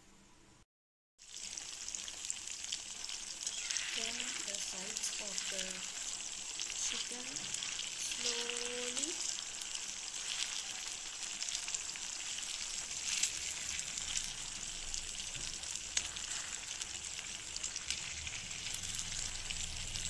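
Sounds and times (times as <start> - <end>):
chicken sizzling in oil: 1.2 - 20.0.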